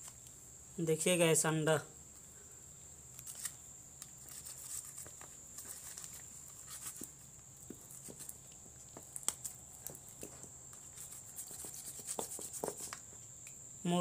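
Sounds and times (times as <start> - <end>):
faint high-pitched whine: 0.0 - 14.0.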